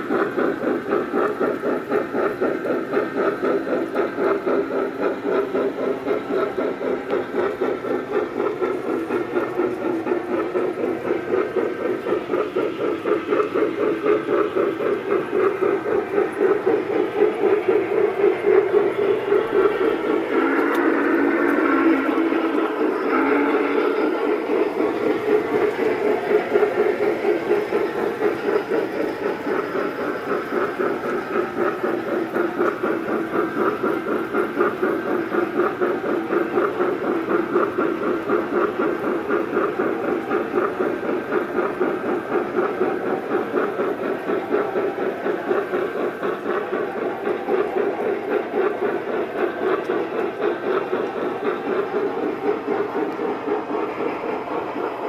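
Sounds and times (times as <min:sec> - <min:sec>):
model train running on track: 0:00.0 - 0:55.0
rapid steam locomotive chuff: 0:00.0 - 0:55.0.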